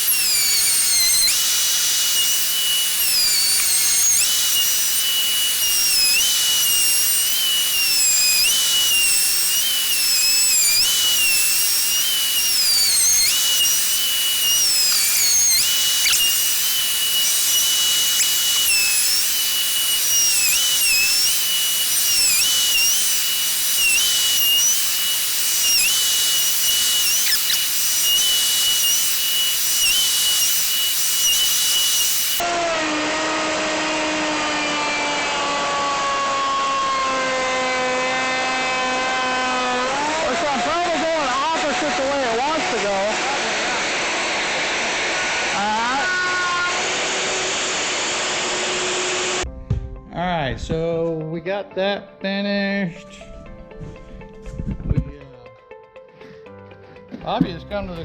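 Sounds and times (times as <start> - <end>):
router motor whine cutting wood: 0.0 - 49.5.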